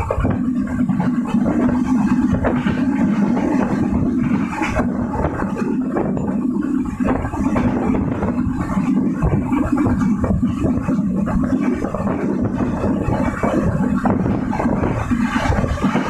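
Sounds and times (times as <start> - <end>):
rattling clatter: 0.0 - 16.0
train wheels rumbling on rails: 0.0 - 16.0.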